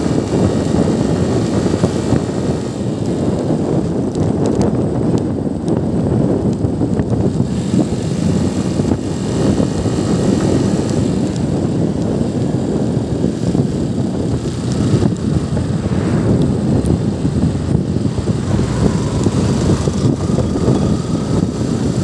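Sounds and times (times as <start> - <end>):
motorcycle engine and tyres drone: 0.0 - 22.0
wind buffeting microphone: 0.0 - 22.0.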